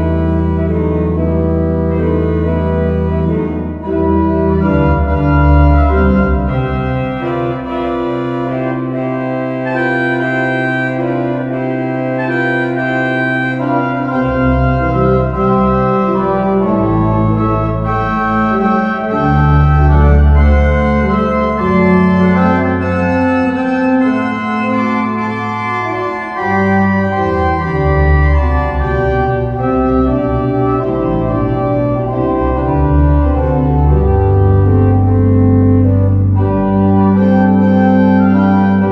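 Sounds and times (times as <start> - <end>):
church pipe organ playing: 0.0 - 38.9.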